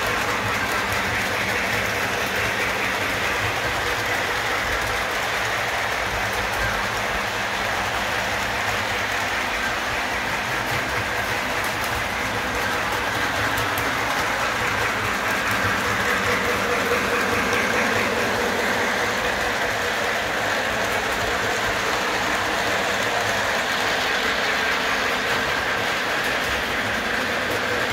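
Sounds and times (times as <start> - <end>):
model train rolling rumble: 0.0 - 27.9.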